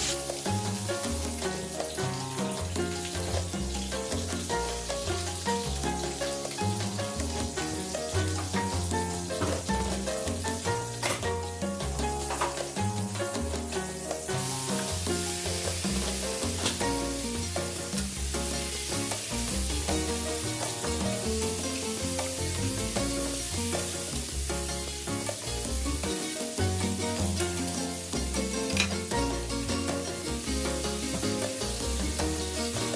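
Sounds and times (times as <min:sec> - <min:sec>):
background music: 0:00.0 - 0:32.9
food sizzling in a pan: 0:00.0 - 0:32.9.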